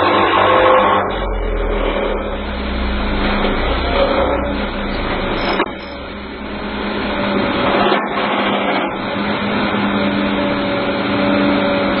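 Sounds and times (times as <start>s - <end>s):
vibratory hammer driving sheet pile: 0.0s - 12.0s.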